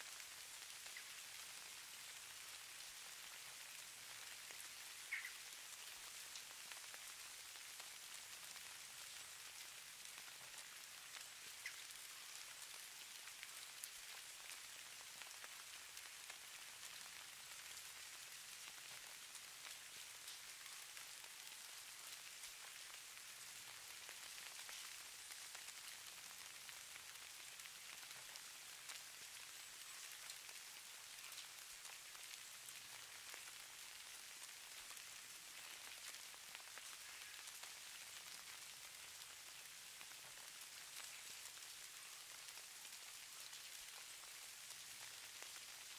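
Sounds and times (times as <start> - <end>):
patter of falling precipitation: 0.0 - 45.9.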